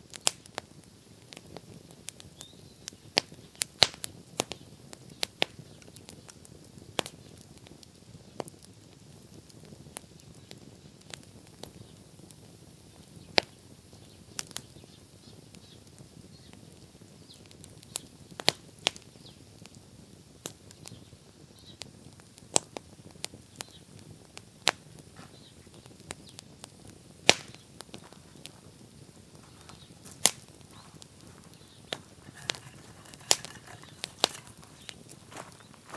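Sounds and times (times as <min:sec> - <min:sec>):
bonfire crackling and popping: 0:00.0 - 0:35.9
faint low hiss: 0:00.0 - 0:35.9.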